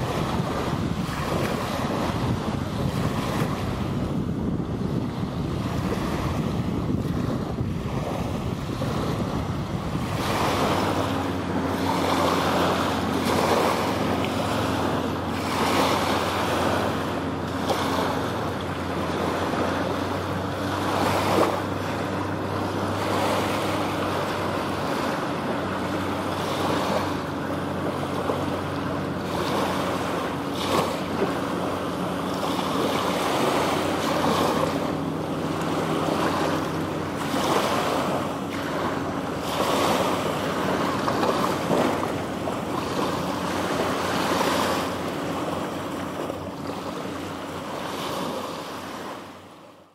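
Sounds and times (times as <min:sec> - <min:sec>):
wind on microphone: 0:00.0 - 0:49.5
choppy water splashing: 0:00.0 - 0:49.9
motorboat engine drone: 0:00.0 - 0:49.9.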